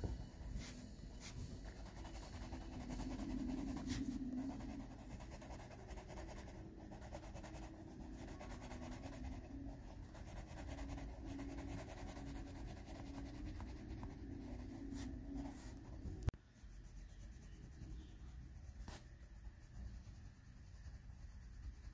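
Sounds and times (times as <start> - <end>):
pencil scratching on paper: 0.0 - 21.9.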